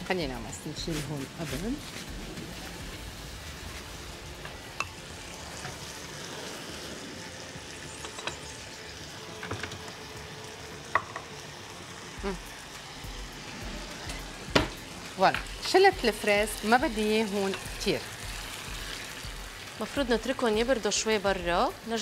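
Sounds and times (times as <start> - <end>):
strawberries sizzling in a pan: 0.0 - 22.0.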